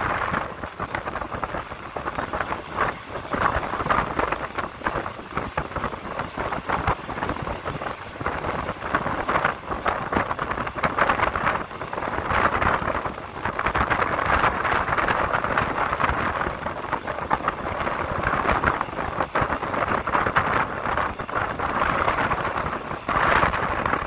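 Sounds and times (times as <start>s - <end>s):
train rumble: 0.0s - 24.0s
train wheels clicking over rails: 0.0s - 24.0s
wind rushing past window: 0.0s - 24.0s.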